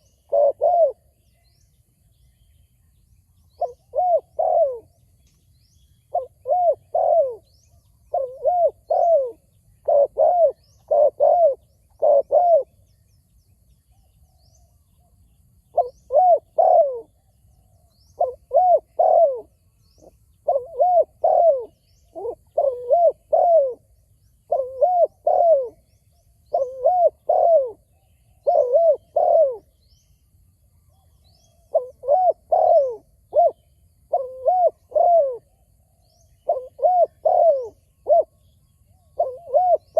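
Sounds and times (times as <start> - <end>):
spotted doves cooing: 0.0 - 1.5, 3.6 - 5.0, 6.0 - 12.8, 15.7 - 29.8, 31.0 - 35.6, 36.3 - 39.9.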